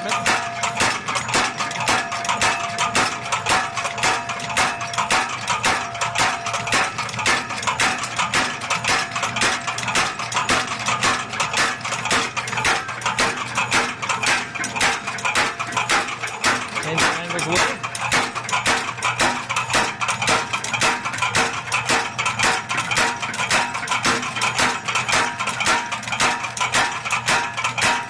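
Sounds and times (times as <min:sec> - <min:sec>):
power hammer striking hot steel: 0:00.0 - 0:28.0.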